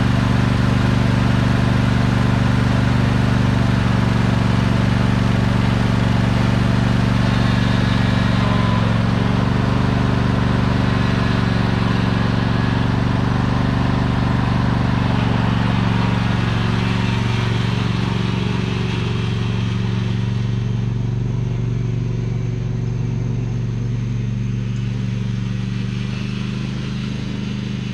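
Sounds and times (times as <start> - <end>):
riding mower engine running: 0.0 - 27.9.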